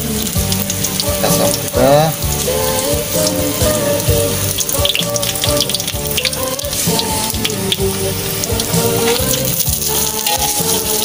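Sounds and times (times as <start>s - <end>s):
background music with melody: 0.0s - 11.0s
fish frying in hot oil: 0.0s - 11.0s.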